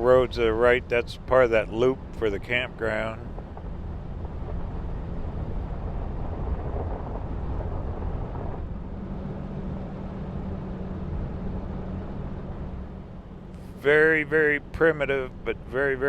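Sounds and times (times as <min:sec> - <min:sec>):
road noise on dirt road: 0:00.0 - 0:16.0
vehicle engine hum: 0:00.0 - 0:16.0.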